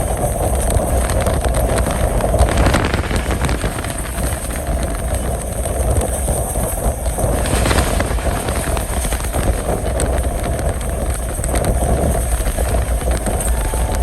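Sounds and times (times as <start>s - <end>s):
rushing air: 0.0s - 14.0s
train wheels rumbling on rails: 0.0s - 14.0s.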